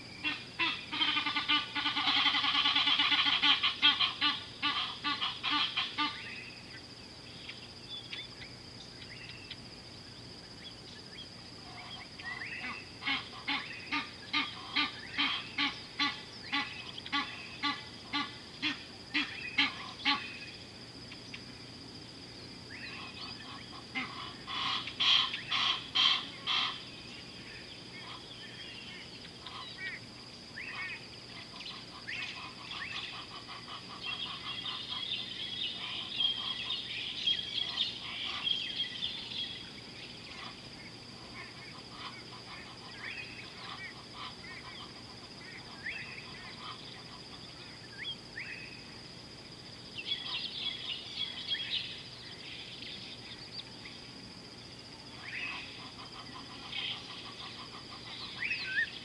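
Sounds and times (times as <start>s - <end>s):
birds calling and chirping: 0.0s - 59.0s.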